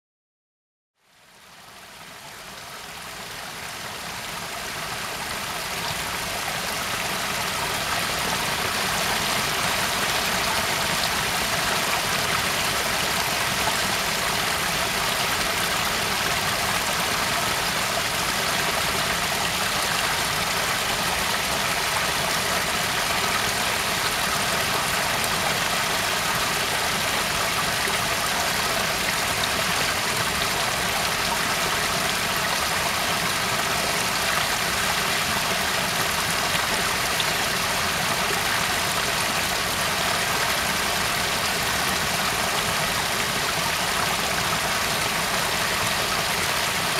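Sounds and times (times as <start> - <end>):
waterfall rushing: 3.2 - 46.9.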